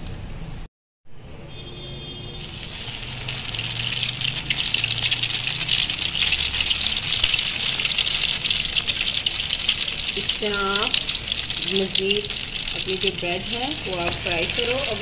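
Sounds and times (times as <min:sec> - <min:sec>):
bread sizzling in a frying pan: 0:02.4 - 0:15.0.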